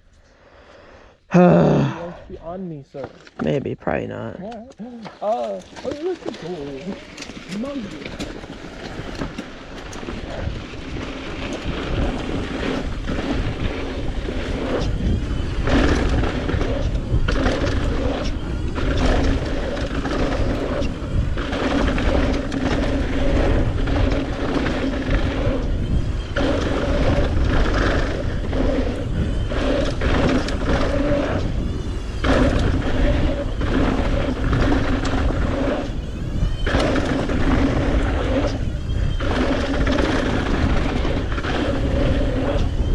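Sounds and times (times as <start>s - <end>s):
mountain bike buzzing: 5.3s - 42.9s
wind rumble on microphone: 5.8s - 42.9s.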